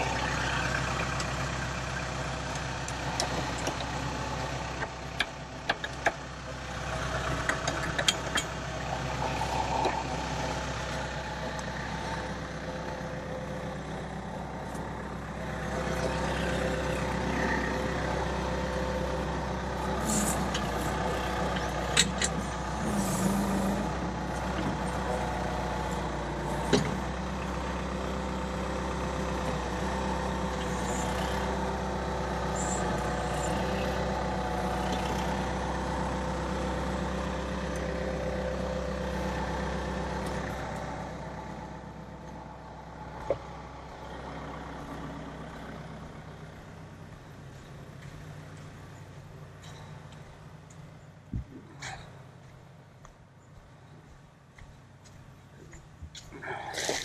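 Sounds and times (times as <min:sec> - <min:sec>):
loader engine idling: 0:00.0 - 0:57.0.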